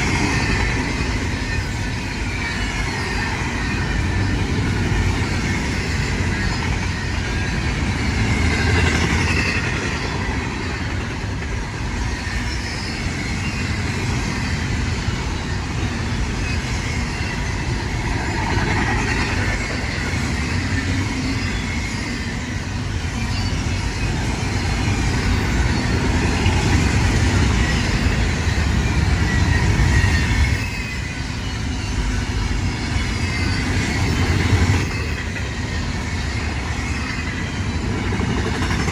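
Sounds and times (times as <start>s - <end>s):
freight train wheels rumbling on rail: 0.0s - 38.9s.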